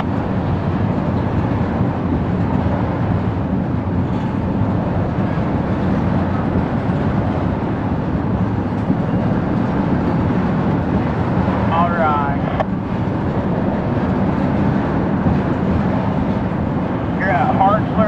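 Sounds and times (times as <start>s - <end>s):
steel wheels on rails: 0.0s - 18.0s.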